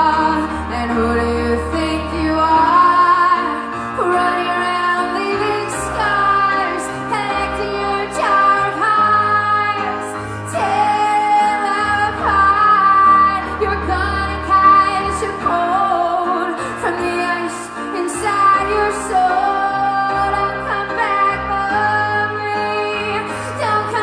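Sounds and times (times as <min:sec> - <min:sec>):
woman singing a pop ballad: 0:00.0 - 0:24.0.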